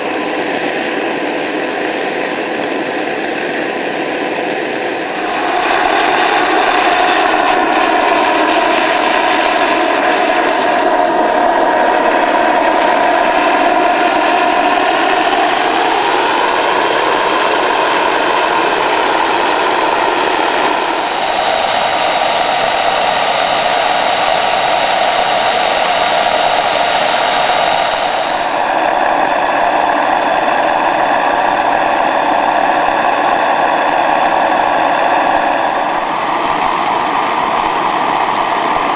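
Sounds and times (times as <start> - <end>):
gas turbine engine running: 0.0 - 38.9
high turbine whine: 0.0 - 38.9
loud rush of air: 0.0 - 38.9.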